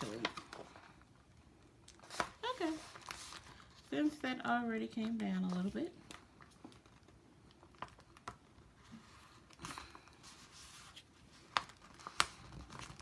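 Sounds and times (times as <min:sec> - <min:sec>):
paper bag rustling: 0:00.0 - 0:01.0, 0:02.0 - 0:13.0.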